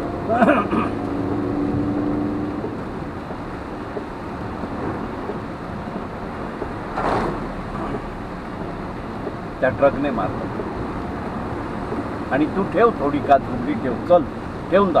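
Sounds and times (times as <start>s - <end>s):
rain and tyres on wet road: 0.0s - 15.0s.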